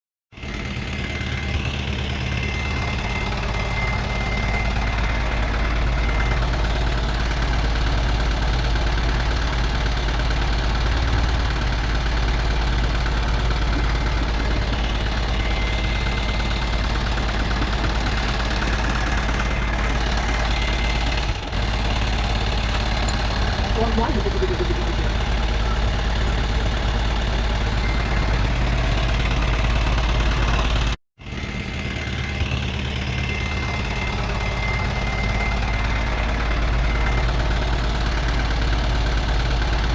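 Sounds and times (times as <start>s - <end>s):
excavator engine droning: 0.4s - 39.9s.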